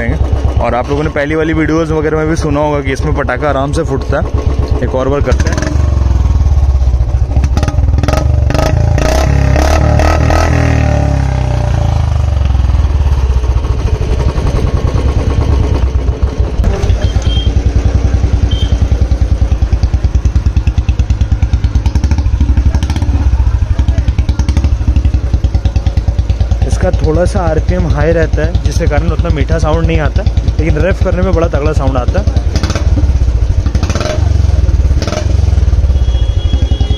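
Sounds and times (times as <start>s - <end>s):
motorcycle engine revving and idling: 0.0s - 36.9s.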